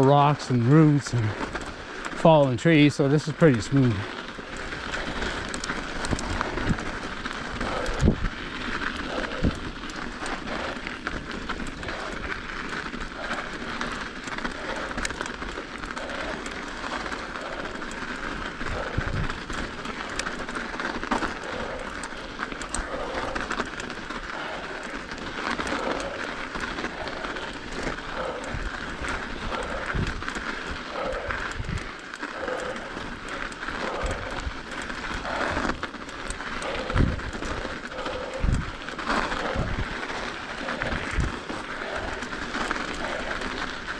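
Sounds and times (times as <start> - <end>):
bike tyres rolling over snow: 0.0 - 43.9.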